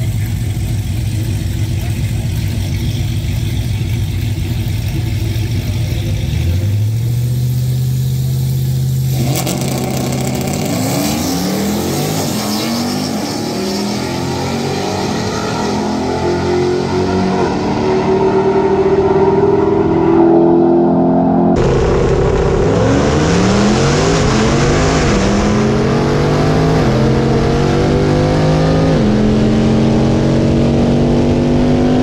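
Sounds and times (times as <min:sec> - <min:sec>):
truck engine revving and accelerating: 0:00.0 - 0:32.0.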